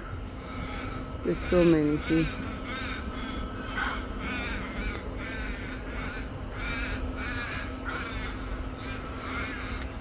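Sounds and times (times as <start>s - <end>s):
ravens cawing: 0.0s - 10.0s.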